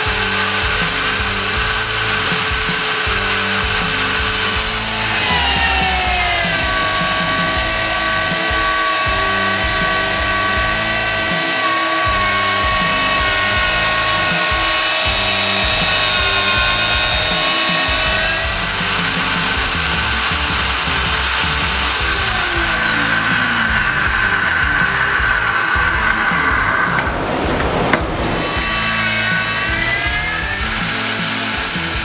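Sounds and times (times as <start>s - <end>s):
drill motor whining: 0.0s - 27.0s, 28.4s - 32.0s
background music with a beat: 0.0s - 32.0s.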